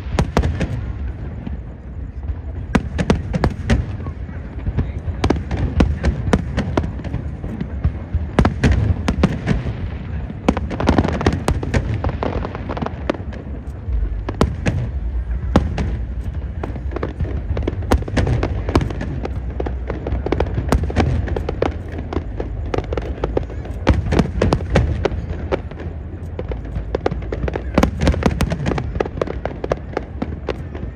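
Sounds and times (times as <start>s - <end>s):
fireworks bangs and crackles: 0.0s - 30.9s
low rumble of distant bursts: 0.0s - 30.9s.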